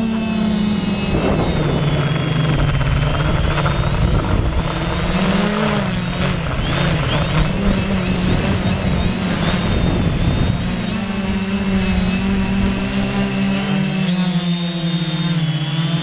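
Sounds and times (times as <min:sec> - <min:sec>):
drone propellers whirring: 0:00.0 - 0:16.0
high motor whine: 0:00.0 - 0:16.0.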